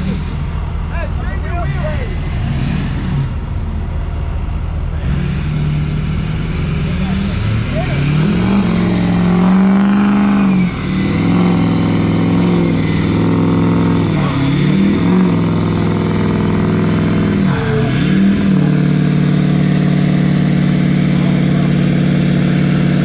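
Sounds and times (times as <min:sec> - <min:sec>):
pickup engine revving hard: 0:02.2 - 0:03.5, 0:05.0 - 0:23.0.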